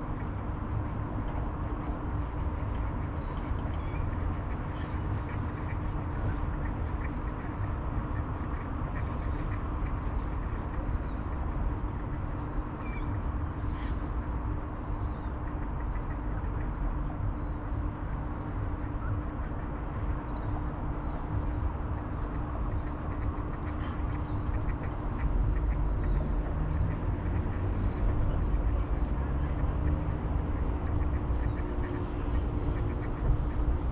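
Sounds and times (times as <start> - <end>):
steady low rumble: 0.0 - 33.9.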